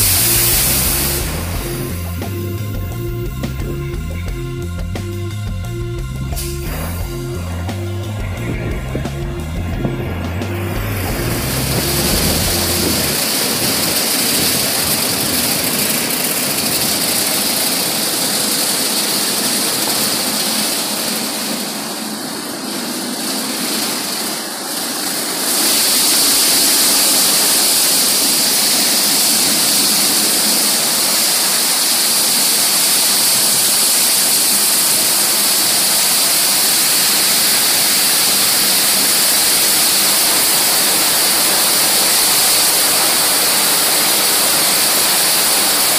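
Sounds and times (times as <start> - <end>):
car wash brushes and spray: 0.0 - 5.2, 6.0 - 45.9.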